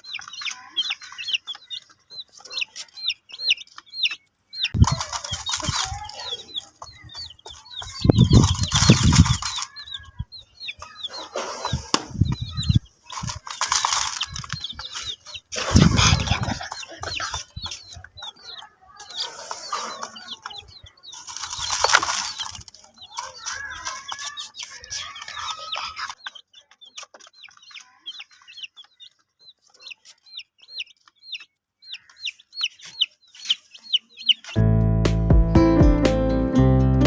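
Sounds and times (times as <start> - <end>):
hen clucking: 0.0 - 34.6
baby chicks peeping: 0.0 - 36.6.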